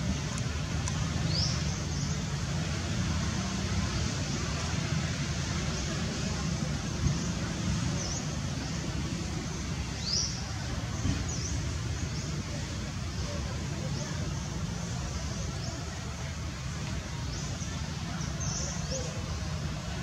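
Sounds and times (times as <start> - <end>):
outdoor background rumble: 0.0 - 20.0.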